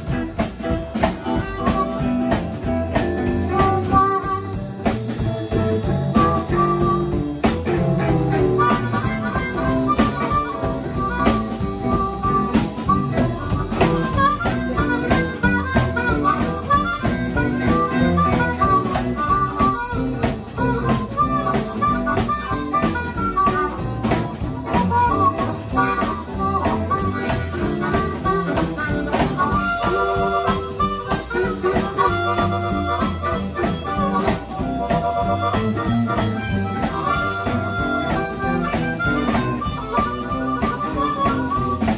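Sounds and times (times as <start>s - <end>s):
amplified blues harmonica: 0.0s - 41.9s
drums: 0.0s - 41.9s
electric guitar: 0.0s - 41.9s.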